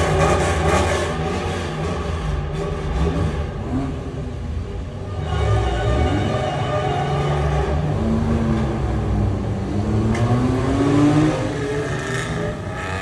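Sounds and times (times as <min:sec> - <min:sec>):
car engine accelerating in tunnel: 0:00.0 - 0:13.0.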